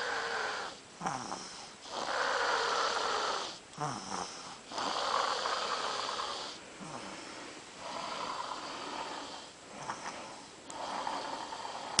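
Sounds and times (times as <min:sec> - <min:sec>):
person snoring: 0:00.0 - 0:12.0.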